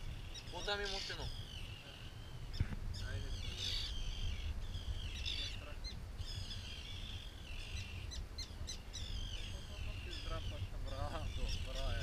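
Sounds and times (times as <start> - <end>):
birds calling harshly: 0.0 - 12.0.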